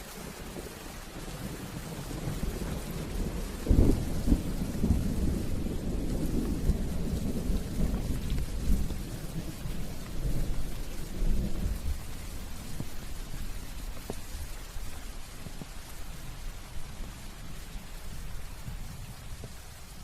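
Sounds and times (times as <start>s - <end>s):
steady rain: 0.0s - 20.0s
rolling thunder: 0.3s - 19.8s.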